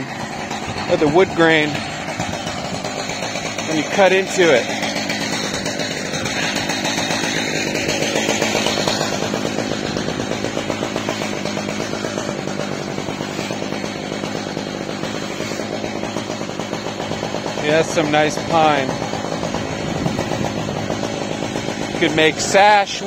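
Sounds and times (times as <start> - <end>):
chainsaw engine running: 0.0 - 23.0.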